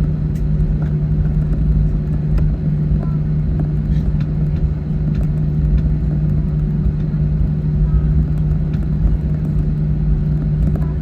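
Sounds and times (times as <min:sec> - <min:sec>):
aircraft engine hum: 0:00.0 - 0:11.0
low rumble: 0:00.0 - 0:11.0.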